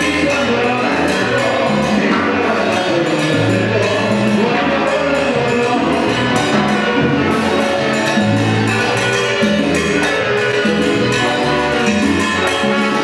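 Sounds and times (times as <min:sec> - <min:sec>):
live latin dance band: 0:00.0 - 0:13.0.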